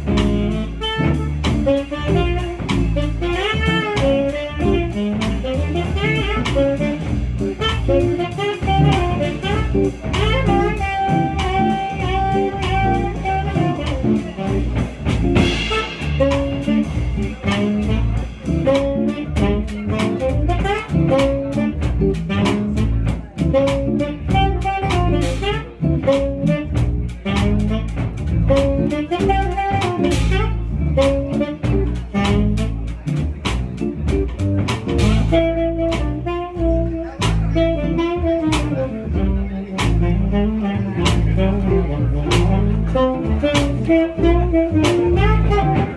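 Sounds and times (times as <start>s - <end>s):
hollow-body guitar: 0.0s - 45.9s
jazz group playing: 0.0s - 45.9s
low bass part: 0.0s - 45.9s.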